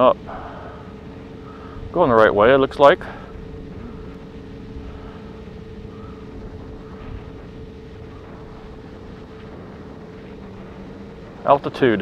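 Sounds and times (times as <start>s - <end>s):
drone propellers humming: 0.0s - 12.0s
wind rumbling on microphone: 0.0s - 12.0s.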